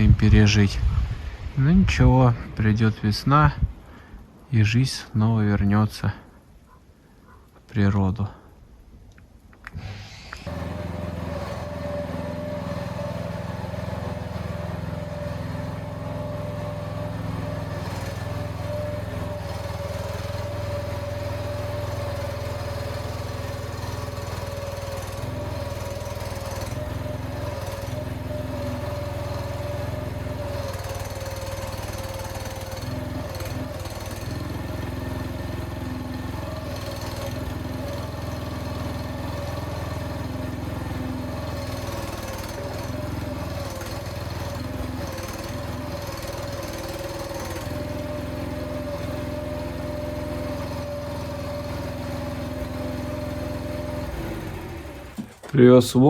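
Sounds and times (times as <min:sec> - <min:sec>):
vehicle engine humming: 0:09.0 - 0:56.0.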